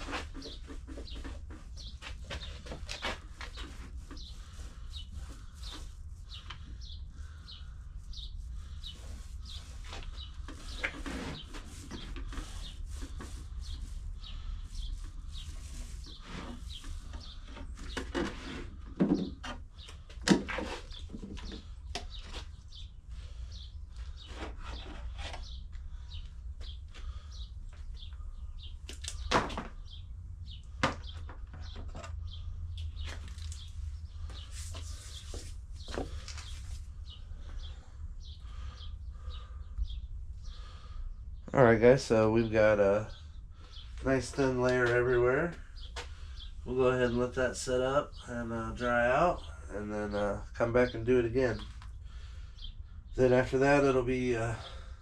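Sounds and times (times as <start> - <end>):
birds chirping faintly: 0.0 - 55.0.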